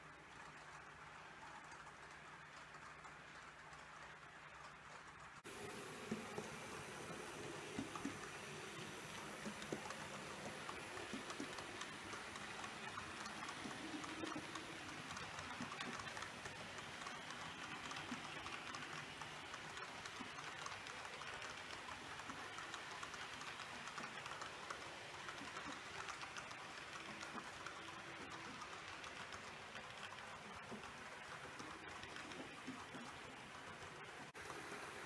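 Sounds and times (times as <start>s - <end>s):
model train wheels rattling: 6.2s - 34.4s.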